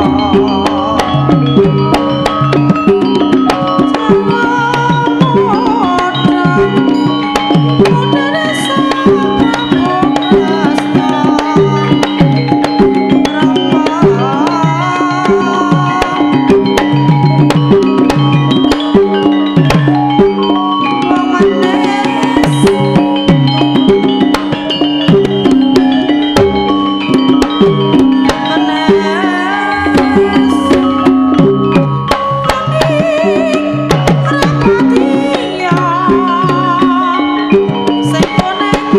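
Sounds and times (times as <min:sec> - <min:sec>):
hand drums beating: 0:00.0 - 0:38.9
ringing metallophone tones: 0:00.0 - 0:38.9
wavering melodic line: 0:00.0 - 0:38.9.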